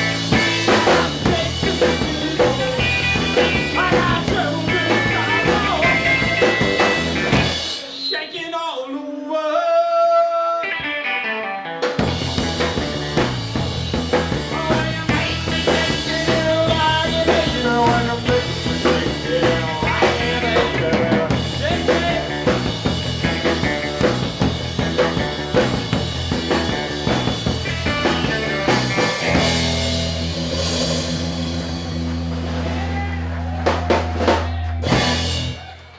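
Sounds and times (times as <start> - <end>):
drum kit: 0.0 - 8.0, 11.8 - 35.9
rock band playing: 0.0 - 8.2, 10.6 - 35.9.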